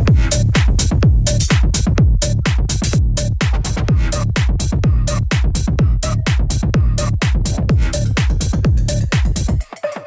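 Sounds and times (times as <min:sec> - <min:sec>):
bass house dance music: 0:00.0 - 0:10.0.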